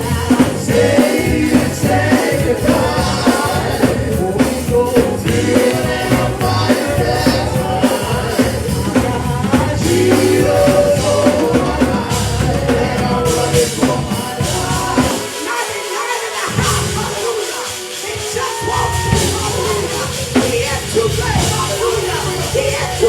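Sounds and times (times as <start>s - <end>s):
bass: 0.0s - 15.4s, 16.5s - 17.3s, 18.6s - 23.0s
drum kit: 0.0s - 23.0s
people singing: 0.0s - 23.0s.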